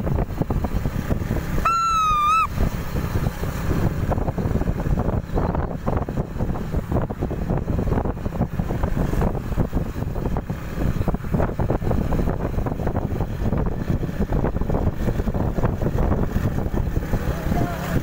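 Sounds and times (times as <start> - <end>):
motorcycle road and engine noise: 0.0 - 18.0
wind buffeting microphone: 0.0 - 18.0.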